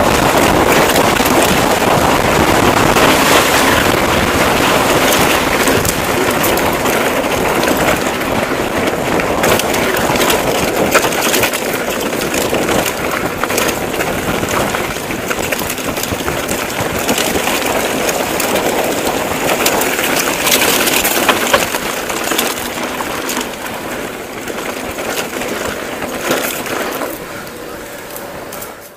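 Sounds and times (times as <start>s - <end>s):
bike clicks and rattles: 0.0s - 28.9s
tyres crunching on gravel: 0.0s - 28.9s.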